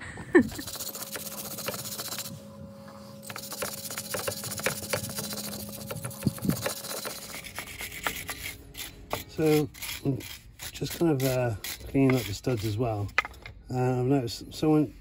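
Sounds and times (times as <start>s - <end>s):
wire brush scraping metal: 0.5s - 13.1s.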